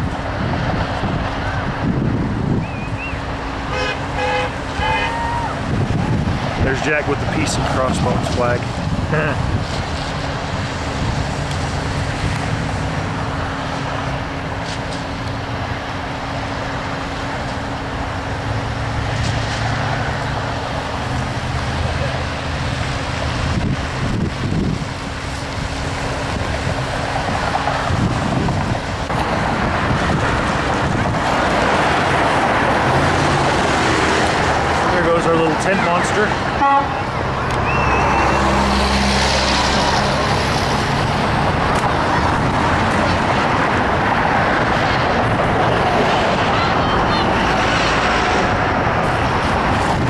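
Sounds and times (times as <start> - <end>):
cars passing with tyre noise: 0.0 - 50.0.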